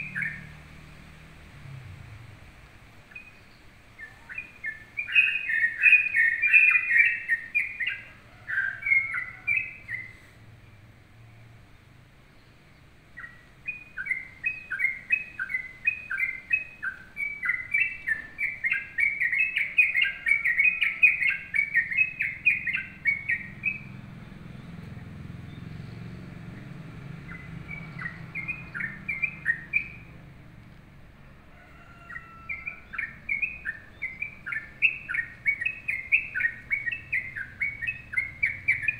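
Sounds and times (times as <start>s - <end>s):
bird singing quick chirping notes: 0.0s - 0.8s, 3.1s - 10.8s, 12.4s - 30.2s, 32.5s - 38.9s.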